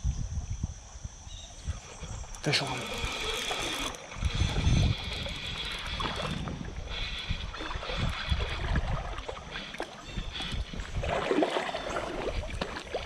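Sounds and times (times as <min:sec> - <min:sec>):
fishing reel whirring: 0:00.2 - 0:13.0.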